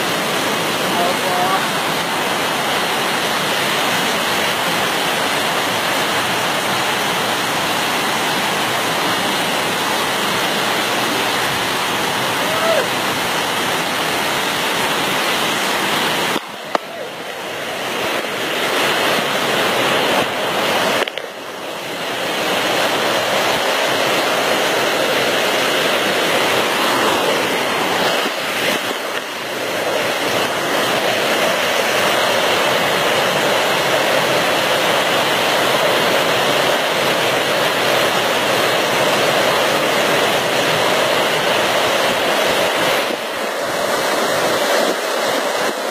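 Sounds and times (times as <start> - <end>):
rainwater rushing down steps: 0.0 - 45.9.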